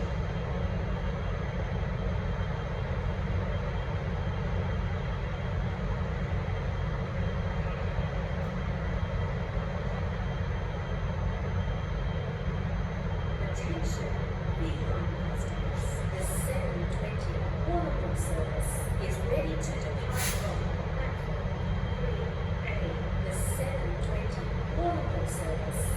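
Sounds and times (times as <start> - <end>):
diesel locomotive engine rumble: 0.0 - 25.9
train running noise: 0.0 - 25.9.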